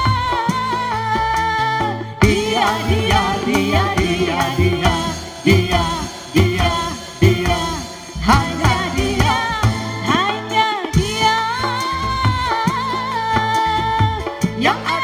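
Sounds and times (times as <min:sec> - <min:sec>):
steady drum beat: 0:00.0 - 0:15.0
ornamented melody line: 0:02.1 - 0:15.0.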